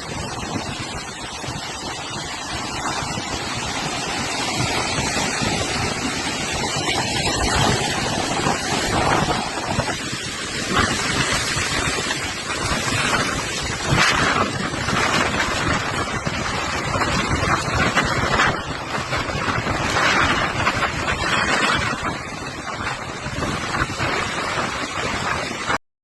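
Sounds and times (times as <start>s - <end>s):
strong wind gusts on microphone: 0.0s - 25.8s.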